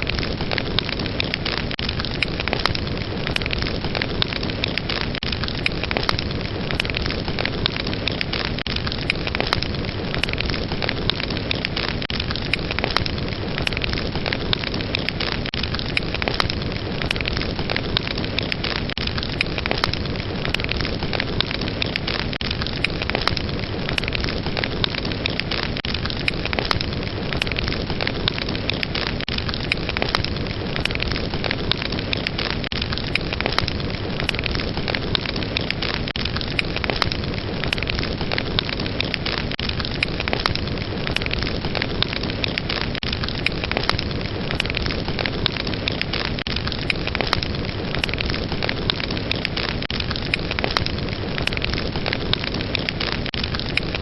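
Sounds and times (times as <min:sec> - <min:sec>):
fire crackles and pops: 0:00.0 - 0:54.0.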